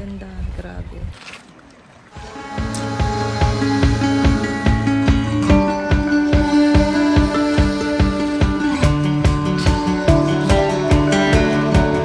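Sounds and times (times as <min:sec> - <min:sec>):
acoustic guitar music with beat: 0:02.2 - 0:12.0.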